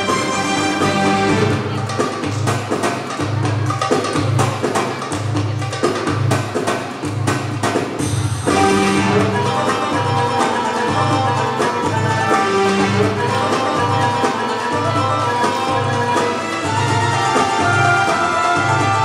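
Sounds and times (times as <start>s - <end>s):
belly dance music: 0.0s - 19.0s
hand-drum strikes: 0.0s - 19.0s.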